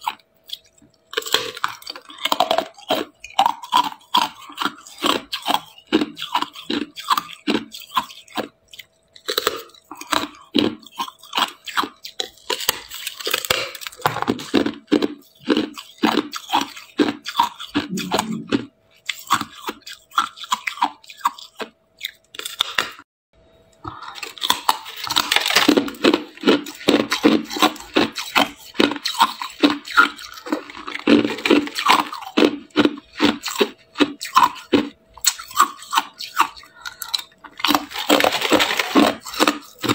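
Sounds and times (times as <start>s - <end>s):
ice being chewed: 0.0s - 22.9s, 23.7s - 39.9s.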